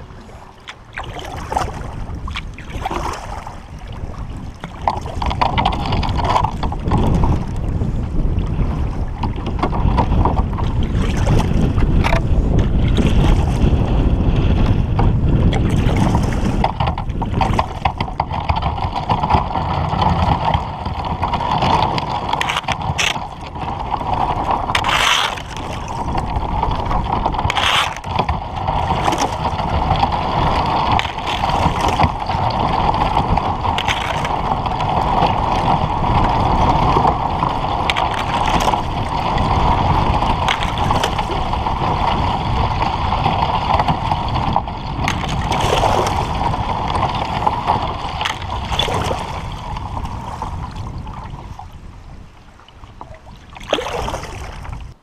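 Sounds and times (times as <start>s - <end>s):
ice scraping along kayak hull: 0.0s - 55.0s
wind rumble on microphone: 0.0s - 55.0s.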